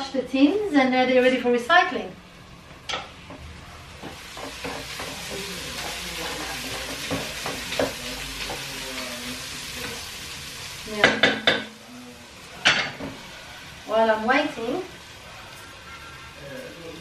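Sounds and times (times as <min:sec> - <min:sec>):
onions sizzling in a pot: 0:02.7 - 0:17.0.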